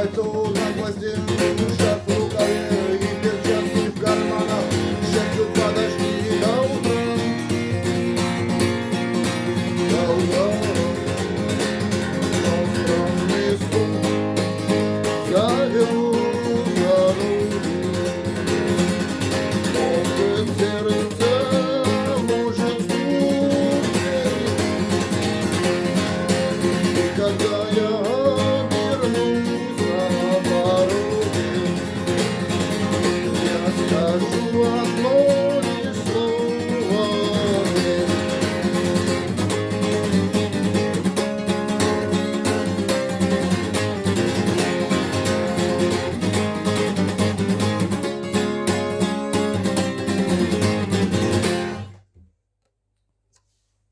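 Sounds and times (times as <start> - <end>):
acoustic guitar with sliding melody: 0.0 - 52.1.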